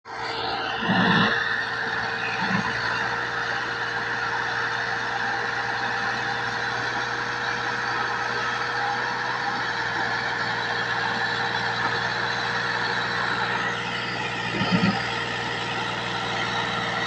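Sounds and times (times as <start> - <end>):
tractor engine humming: 0.1 - 17.0.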